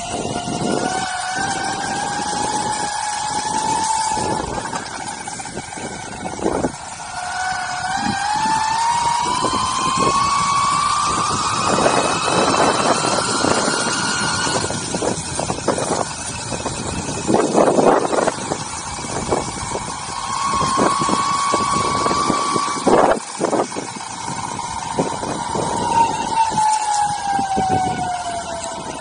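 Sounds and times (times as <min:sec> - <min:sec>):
electric skateboard motors whining: 0:00.0 - 0:29.0
wheels hissing on wet asphalt: 0:00.0 - 0:29.0.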